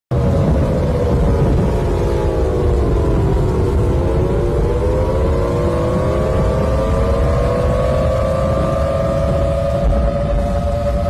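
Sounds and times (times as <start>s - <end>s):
storm wind rumbling on microphone: 0.1s - 11.0s
whining tones sliding in pitch: 0.2s - 11.0s.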